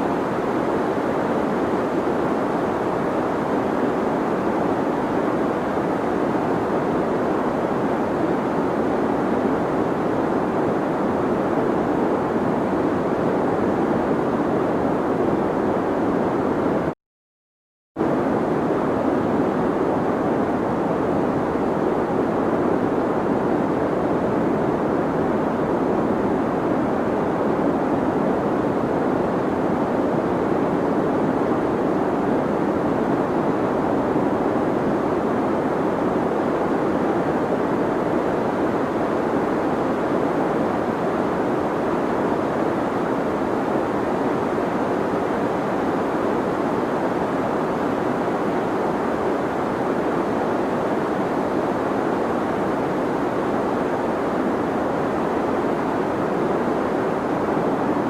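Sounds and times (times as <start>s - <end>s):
deep white noise hiss: 0.0s - 16.9s, 18.0s - 58.0s.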